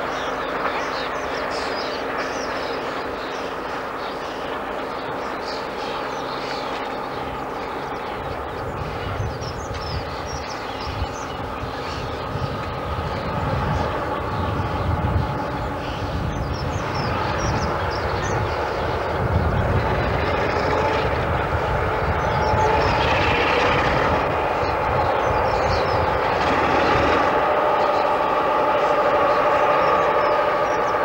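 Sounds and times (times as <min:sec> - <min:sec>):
diesel locomotive engine under load: 0:00.0 - 0:31.0.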